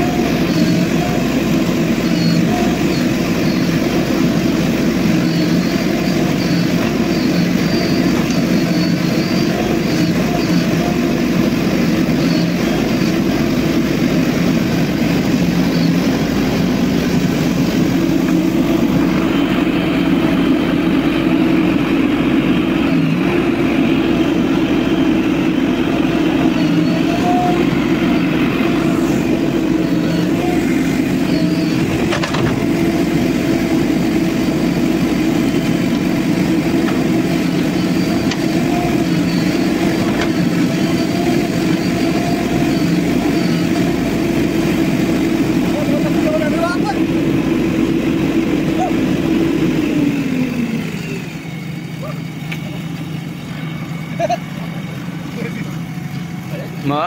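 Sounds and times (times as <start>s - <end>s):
diesel engine running under load: 0.0s - 57.0s
machine digging earth: 0.0s - 57.0s.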